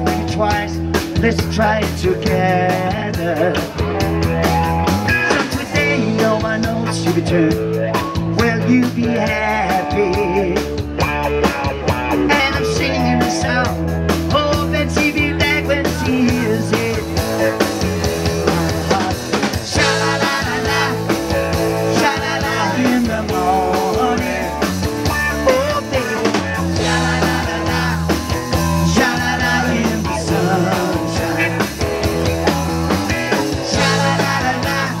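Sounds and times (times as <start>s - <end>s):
man singing into a microphone: 0.0s - 3.9s, 5.2s - 11.0s, 12.2s - 32.0s, 33.4s - 35.0s
live rock band playing: 0.0s - 35.0s.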